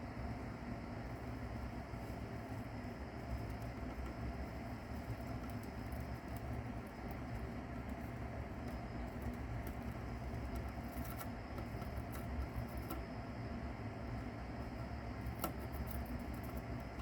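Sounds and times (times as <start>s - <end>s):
steady low hum: 0.0s - 17.0s
mouse chewing crackles and clicks: 0.4s - 17.0s.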